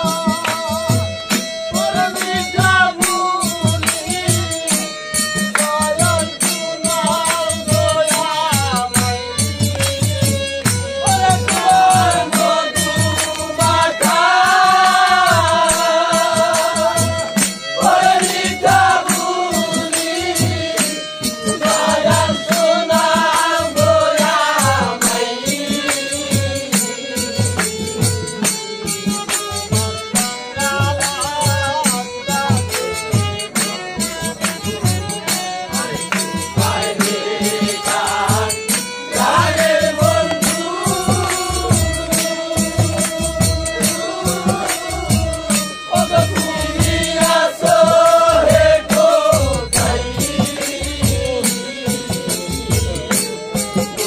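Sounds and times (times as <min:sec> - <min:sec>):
metallic jingling percussion: 0:00.0 - 0:54.0.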